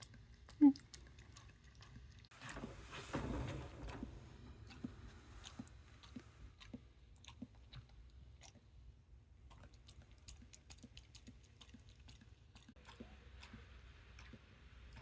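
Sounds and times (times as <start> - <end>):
dog lapping water: 0.0 - 2.7, 3.5 - 15.0.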